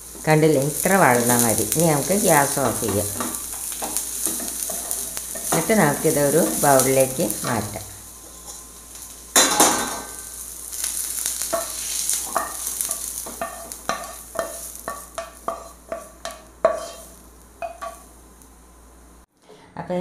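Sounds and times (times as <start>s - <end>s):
soft hiss: 0.0s - 19.3s.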